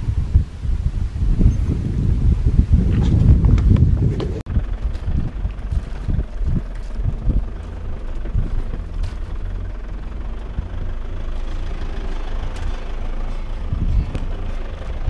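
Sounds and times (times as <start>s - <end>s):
road and wind noise: 0.0s - 15.0s
vehicle engine hum: 0.0s - 15.0s
vehicle bumps and thumps: 2.6s - 15.0s.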